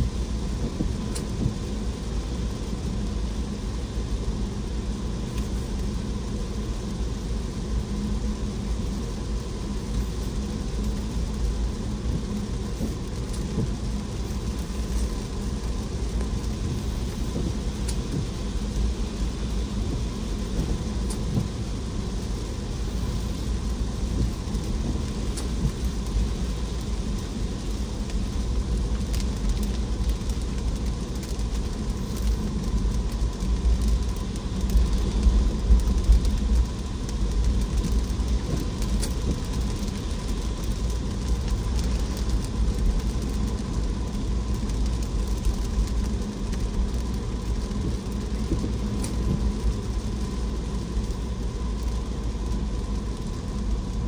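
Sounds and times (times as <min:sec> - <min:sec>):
rain hissing: 0:00.0 - 0:54.0
raindrop ticks: 0:00.4 - 0:04.4, 0:05.0 - 0:54.0.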